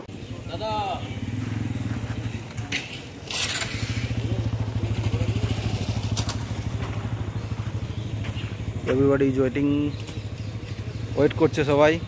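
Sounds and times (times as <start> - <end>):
small engine humming: 1.1 - 12.0.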